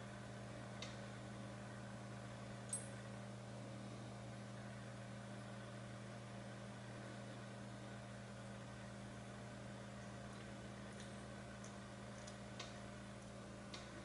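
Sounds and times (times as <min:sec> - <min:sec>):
faint low hum with hiss: 0:00.0 - 0:14.0.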